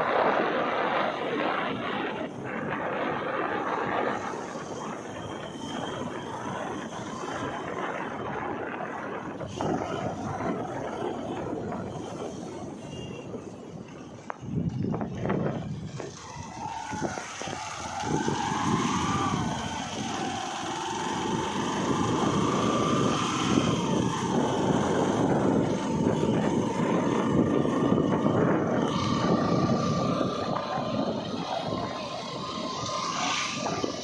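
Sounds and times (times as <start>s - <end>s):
vehicle engine rumbling and whining: 0.0s - 34.0s.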